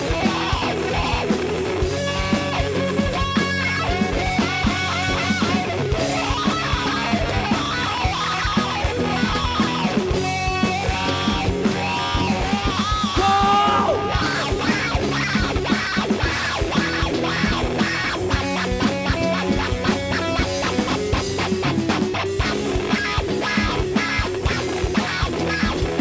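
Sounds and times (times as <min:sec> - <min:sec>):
bass guitar: 0:00.0 - 0:26.0
drum kit beat: 0:00.0 - 0:26.0
electric guitars: 0:00.0 - 0:26.0
lead guitar bending notes: 0:00.0 - 0:26.0.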